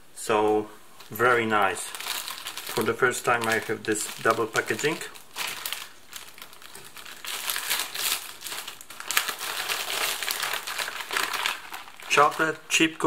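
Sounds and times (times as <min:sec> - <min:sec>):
plastic bag crinkling: 0:00.9 - 0:13.0.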